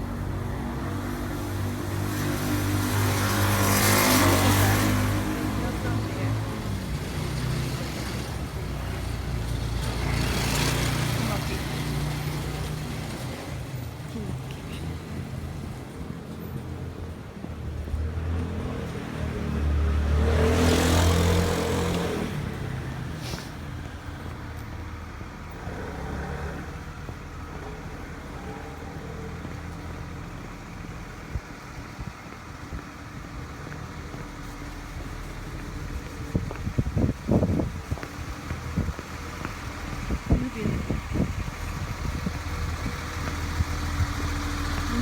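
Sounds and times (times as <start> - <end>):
street traffic: 0.0 - 45.0
vehicle passing close by: 0.2 - 13.9, 17.7 - 45.0.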